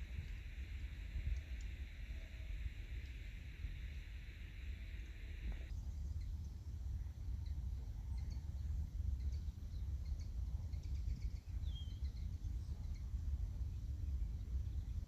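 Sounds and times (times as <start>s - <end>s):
small birds chirping: 0.0s - 6.6s, 7.4s - 15.0s.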